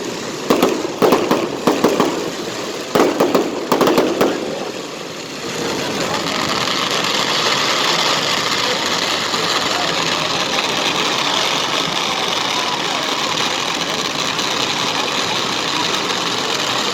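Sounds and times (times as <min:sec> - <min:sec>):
firework bursts: 0:00.0 - 0:16.9
fireworks crackling: 0:00.0 - 0:16.9.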